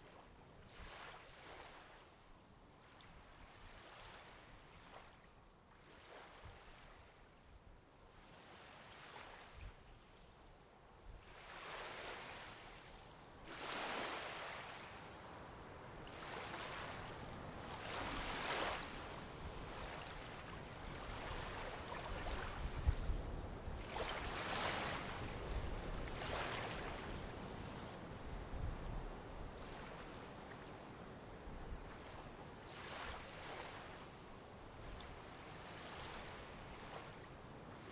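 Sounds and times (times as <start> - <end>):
small waves breaking on sand: 0.0 - 37.9.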